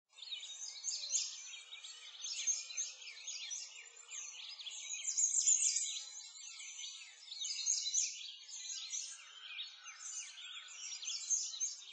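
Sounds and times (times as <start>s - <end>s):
songbirds chirping: 0.1s - 11.9s.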